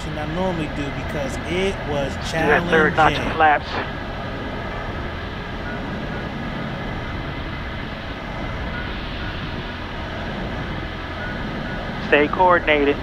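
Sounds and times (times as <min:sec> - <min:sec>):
airflow noise: 0:00.0 - 0:13.0
airplane engine and propeller droning: 0:00.0 - 0:13.0.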